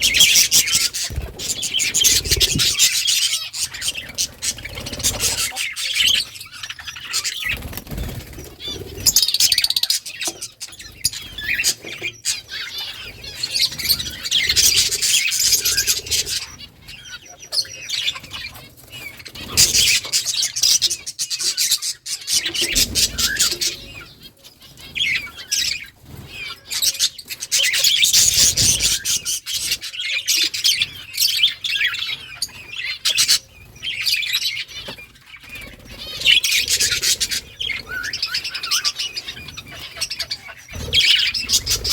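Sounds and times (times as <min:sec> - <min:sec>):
budgerigars chirping and chattering: 0:00.0 - 0:41.9.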